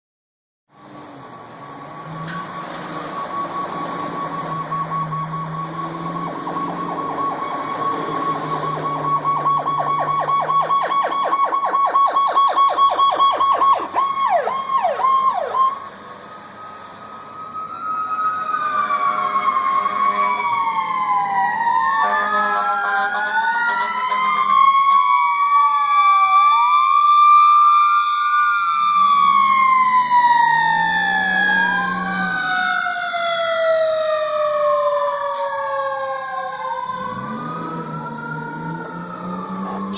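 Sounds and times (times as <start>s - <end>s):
fire engine sirens wailing: 0.8s - 39.9s.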